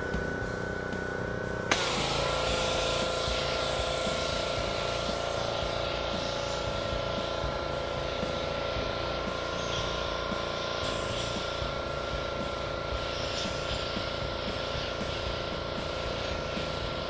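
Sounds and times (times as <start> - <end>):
pressure washer motor running: 0.0 - 17.0
pressure washer spray hissing: 0.2 - 17.0.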